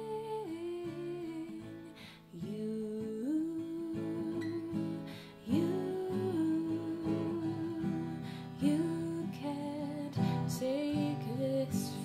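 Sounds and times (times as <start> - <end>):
acoustic guitar playing: 0.0 - 12.0
woman singing wordless notes: 0.0 - 12.0.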